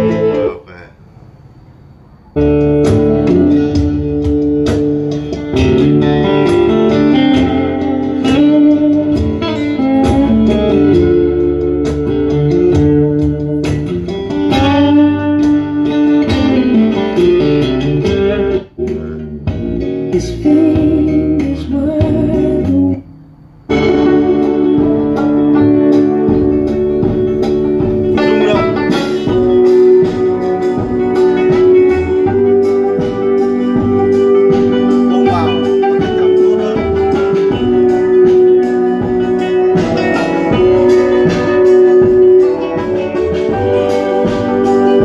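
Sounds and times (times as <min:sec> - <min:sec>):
loud guitar music on speaker: 0:00.0 - 0:00.6, 0:02.4 - 0:45.0.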